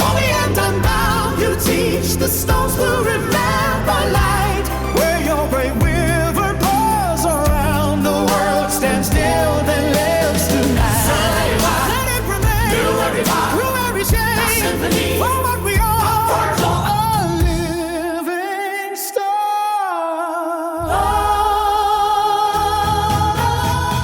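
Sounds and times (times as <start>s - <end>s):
song with wavering vocals: 0.0s - 24.0s.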